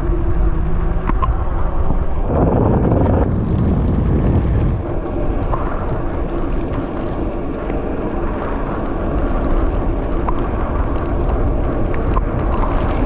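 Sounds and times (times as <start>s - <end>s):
small clicks and ticks: 0.0s - 2.2s, 2.9s - 13.0s
wind noise on microphone: 0.0s - 13.0s.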